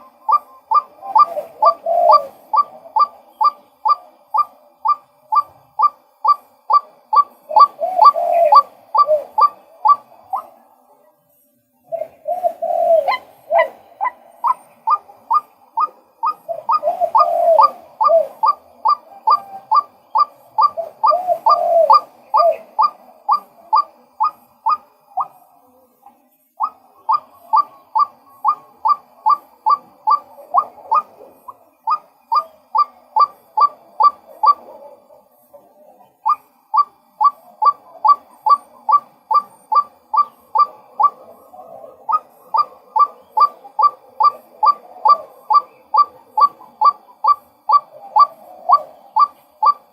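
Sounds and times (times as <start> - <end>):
waterhen calling: 0.0 - 10.5, 12.0 - 25.4, 26.6 - 34.9, 36.2 - 49.9.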